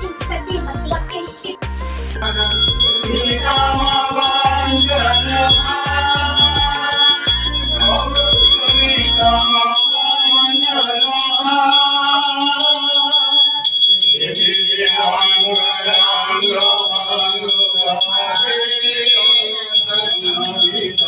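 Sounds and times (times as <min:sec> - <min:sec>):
voices singing devotional song: 0:00.0 - 0:21.0
hand bell ringing rapidly: 0:02.2 - 0:21.0.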